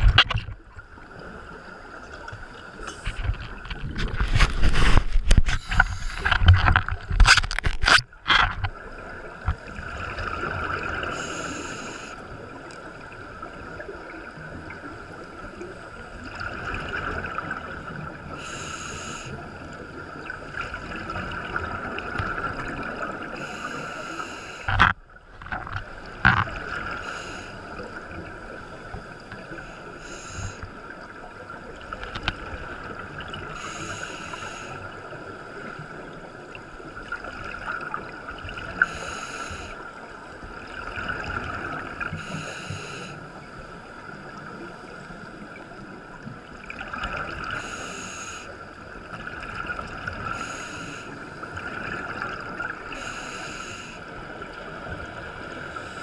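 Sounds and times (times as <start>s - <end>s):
steady underwater hiss: 4.6s - 6.5s, 8.7s - 24.9s, 25.9s - 56.0s.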